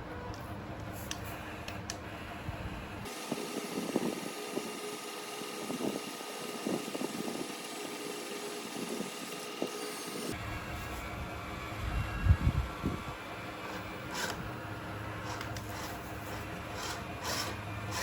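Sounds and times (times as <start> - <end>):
small electric motor whine: 2.0 - 18.0.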